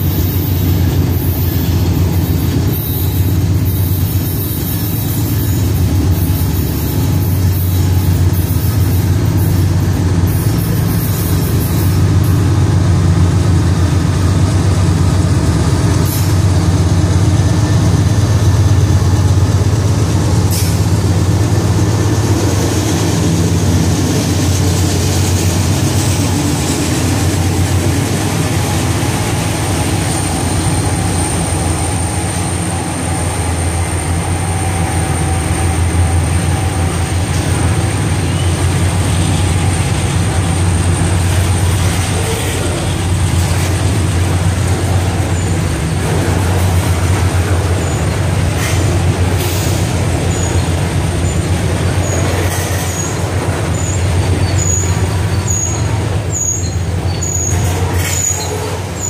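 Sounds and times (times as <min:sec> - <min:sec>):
high wheel squeal: 0:00.0 - 0:12.5, 0:22.6 - 0:59.0
diesel locomotive engine drone: 0:00.0 - 0:59.0
train wheels clicking on rails: 0:00.0 - 0:59.0.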